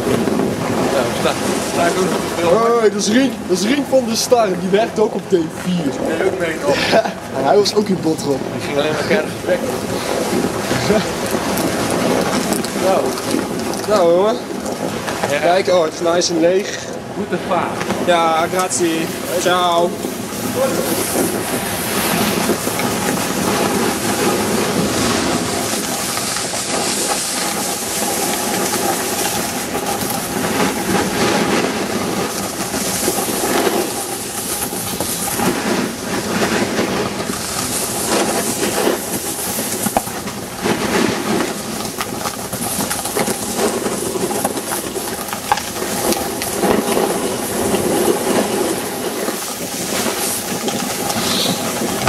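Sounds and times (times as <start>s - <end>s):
camera rumble: 0.0s - 52.0s
skis sliding over snow: 0.0s - 52.0s.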